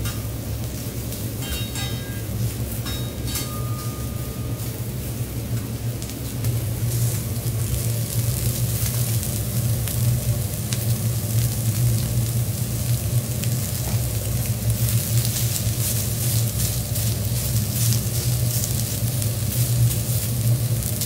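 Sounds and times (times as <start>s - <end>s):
steady low hum: 0.0s - 21.0s
shrimp sizzling on griddle: 4.0s - 21.0s.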